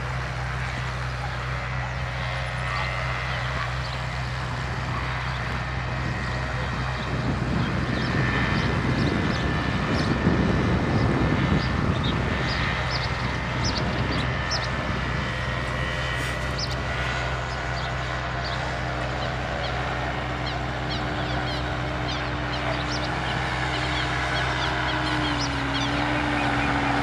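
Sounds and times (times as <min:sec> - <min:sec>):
ultralight aircraft engine droning: 0:00.0 - 0:27.0.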